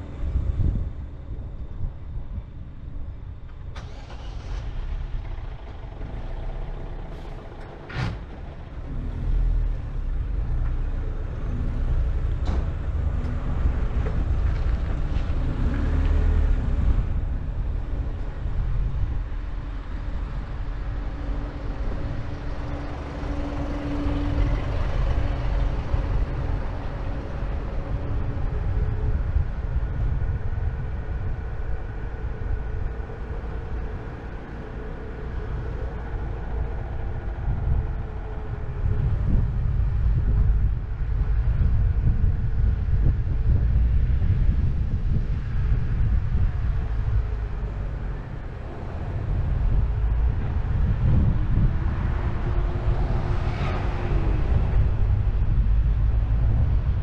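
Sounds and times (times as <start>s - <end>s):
car engine low rumble: 0.0s - 57.0s.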